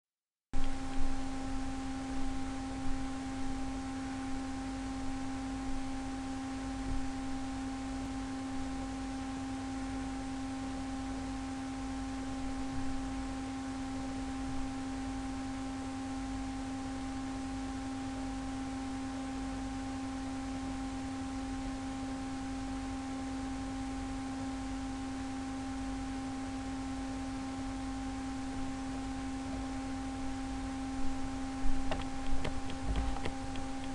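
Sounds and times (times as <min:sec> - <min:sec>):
low steady hum: 0:00.6 - 0:33.9.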